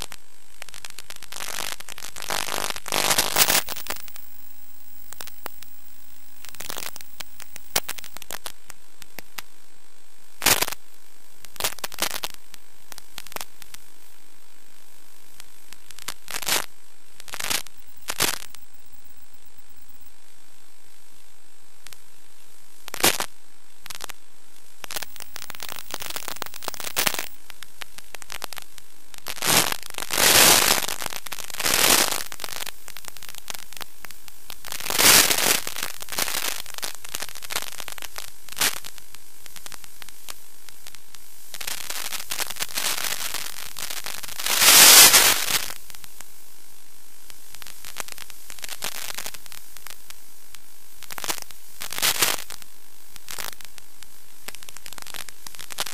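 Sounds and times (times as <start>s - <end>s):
static crackling bursts: 0.0s - 55.9s
static hiss: 0.0s - 55.9s.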